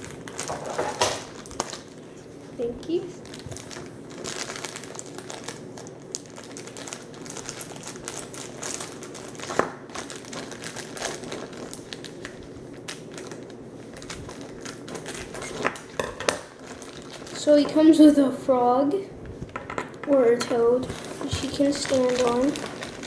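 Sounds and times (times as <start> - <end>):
plastic bag crinkling: 0.0 - 18.3, 19.2 - 23.0.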